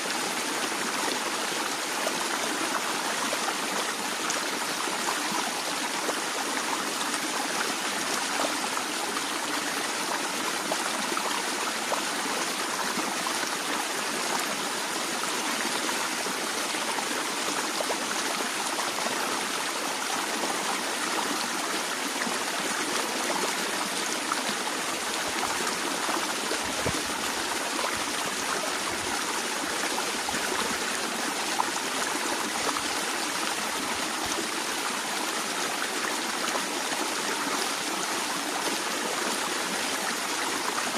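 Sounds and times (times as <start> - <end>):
stream babbling and trickling: 0.0 - 40.9.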